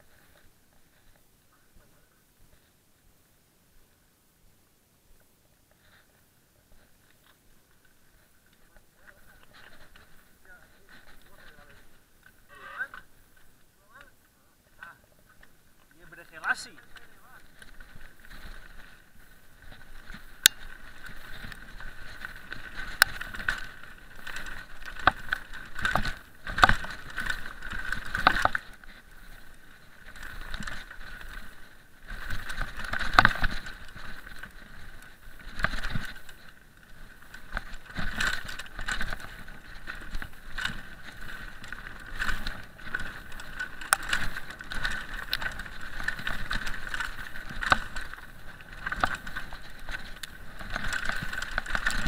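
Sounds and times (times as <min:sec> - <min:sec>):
bike knocking and rattling: 0:05.8 - 0:52.0
tyres crunching over stones: 0:07.0 - 0:52.0.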